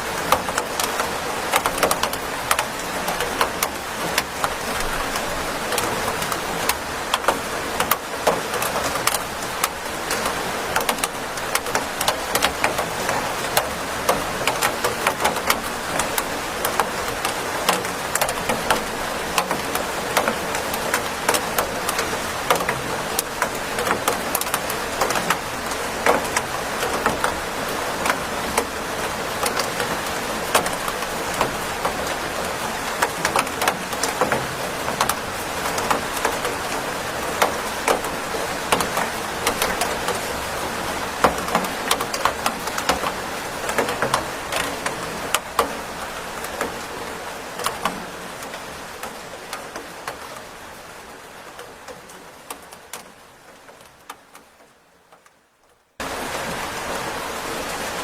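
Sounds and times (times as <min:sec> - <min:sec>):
raindrops striking hard surface: 0:00.0 - 0:58.0
steady rain hiss: 0:00.0 - 0:58.0.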